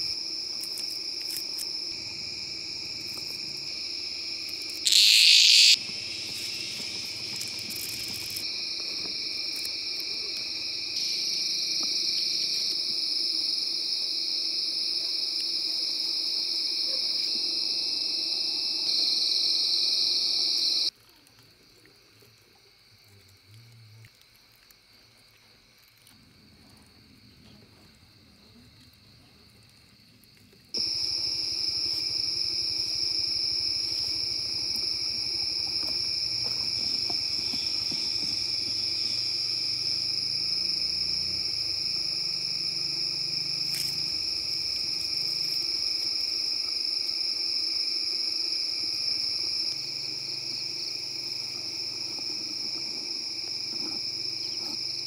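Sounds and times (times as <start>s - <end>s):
crickets and insects chirring: 0.0s - 55.0s.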